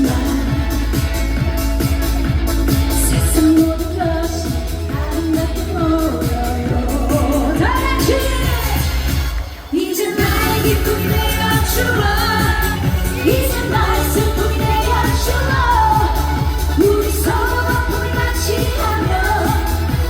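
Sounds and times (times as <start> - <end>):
backing track with bass beat: 0.0 - 20.0
woman singing through pa system: 3.1 - 8.9, 9.7 - 20.0.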